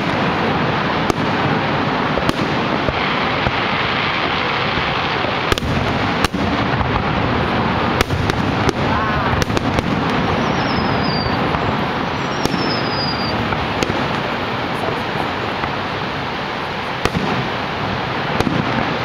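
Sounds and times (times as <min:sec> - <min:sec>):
fireworks bangs: 0:00.0 - 0:19.0
fireworks whistles falling: 0:00.0 - 0:19.0
steady rushing noise: 0:00.0 - 0:19.0.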